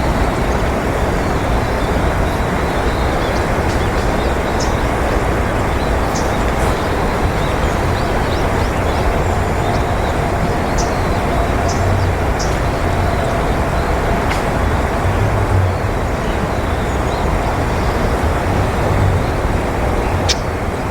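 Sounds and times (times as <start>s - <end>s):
distant road traffic rumble: 0.0s - 20.9s
small birds chirping: 0.0s - 20.9s.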